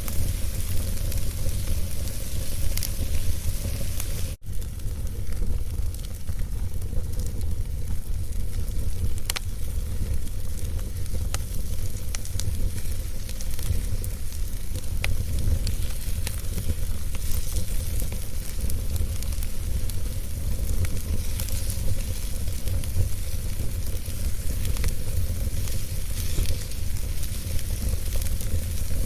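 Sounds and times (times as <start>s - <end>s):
fire crackles and pops: 0.0s - 29.0s
wood fire hissing and rumbling: 0.0s - 29.0s.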